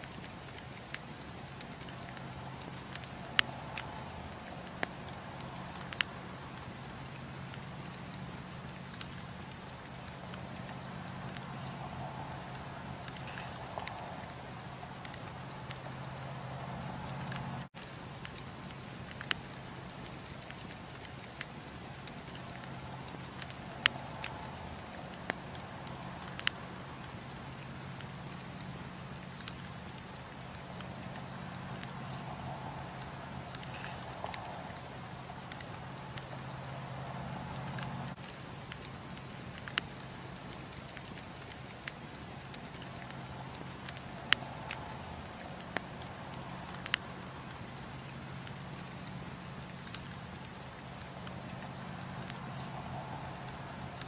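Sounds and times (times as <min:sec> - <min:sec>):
campfire crackling: 0:00.0 - 0:54.0
low steady hum: 0:00.0 - 0:54.0.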